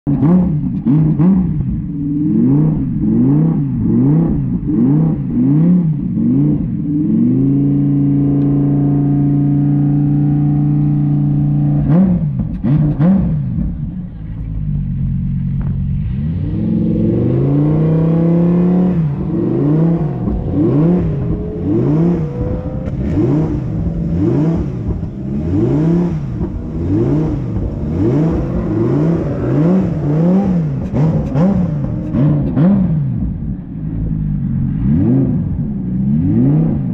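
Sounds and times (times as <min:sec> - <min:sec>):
race car engine revving: 0:00.1 - 0:36.9.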